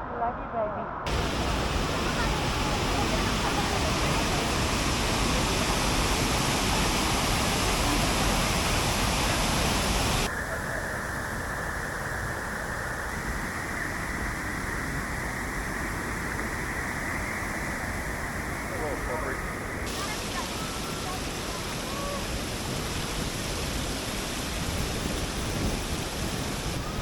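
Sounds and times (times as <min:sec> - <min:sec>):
waterfall rushing: 0:01.1 - 0:10.3, 0:13.6 - 0:27.0.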